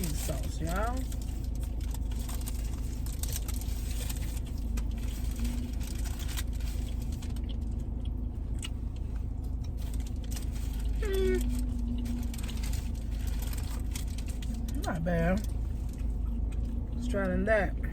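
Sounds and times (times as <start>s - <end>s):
food wrappers rustling: 0.0s - 16.8s
car interior rumble: 0.0s - 17.9s.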